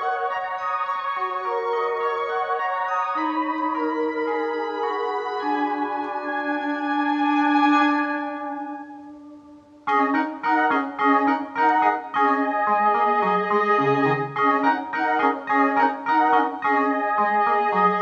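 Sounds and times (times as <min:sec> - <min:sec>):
synthesizer organ-like chords: 0:00.0 - 0:18.0.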